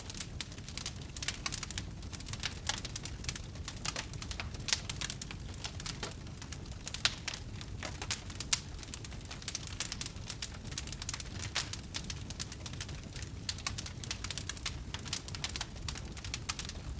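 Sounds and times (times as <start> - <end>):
campfire crackling and popping: 0.0 - 16.9
low rumble of flame: 0.0 - 16.9.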